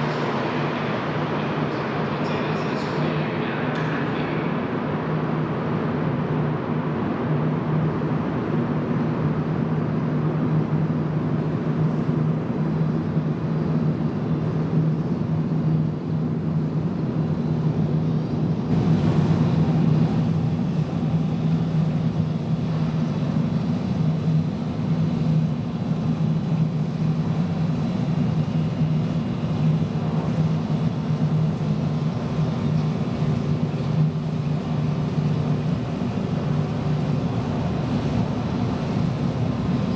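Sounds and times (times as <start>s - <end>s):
metro station drone: 0.0s - 39.9s.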